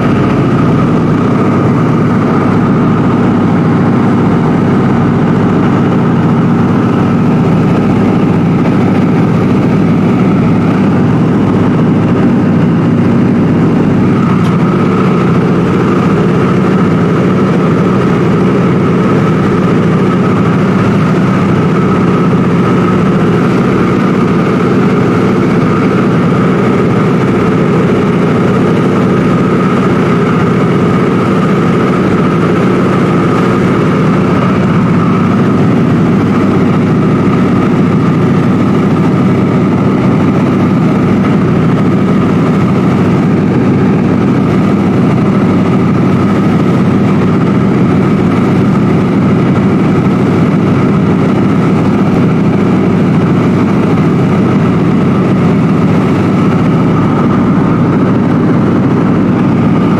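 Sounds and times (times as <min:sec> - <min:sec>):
aircraft engines droning: 0:00.0 - 0:59.9.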